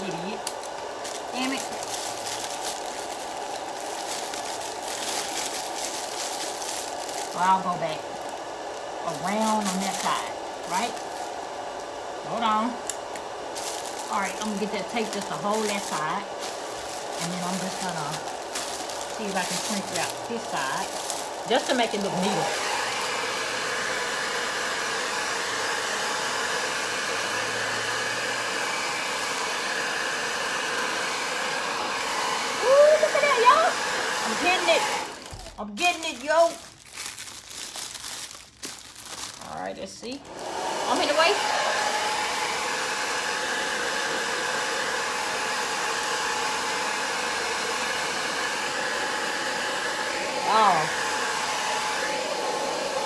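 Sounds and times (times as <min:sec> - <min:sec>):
hair dryer blowing: 0:00.0 - 0:36.6, 0:39.4 - 0:53.0.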